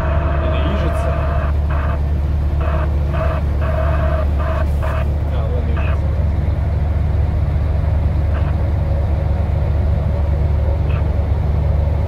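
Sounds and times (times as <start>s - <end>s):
vehicle engine and tyres drone: 0.0s - 12.0s.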